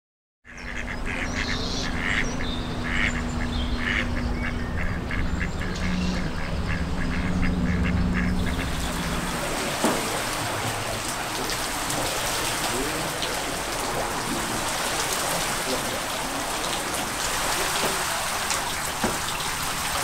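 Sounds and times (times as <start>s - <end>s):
waterbirds calling: 0.4s - 20.0s
low rumble and hum: 0.5s - 20.0s
water wheel splashing: 3.0s - 20.0s.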